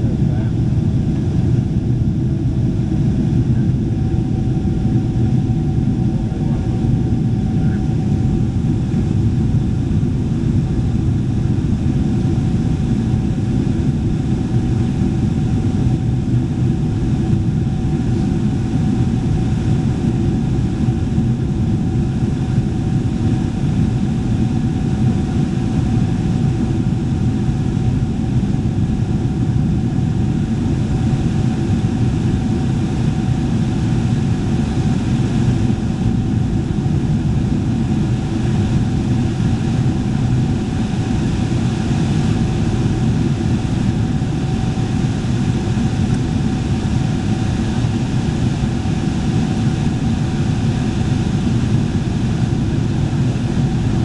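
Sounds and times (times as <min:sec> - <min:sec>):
airplane cabin rumble and airflow: 0:00.0 - 0:54.0
faint steady whine: 0:00.0 - 0:54.0.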